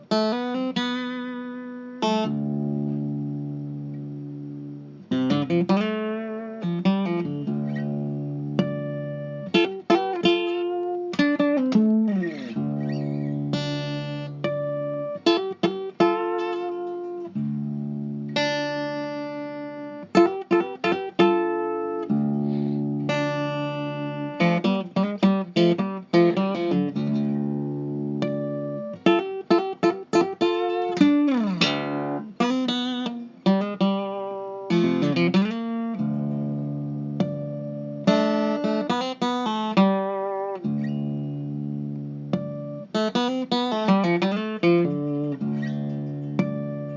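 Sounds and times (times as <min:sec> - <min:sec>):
guitar plucked notes and strummed chords: 0:00.0 - 0:46.9.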